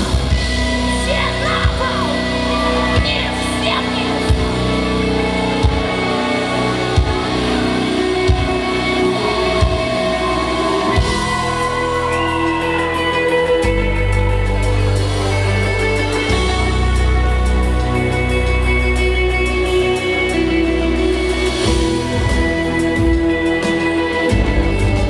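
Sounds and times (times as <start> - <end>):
electric guitars: 0.0 - 25.0.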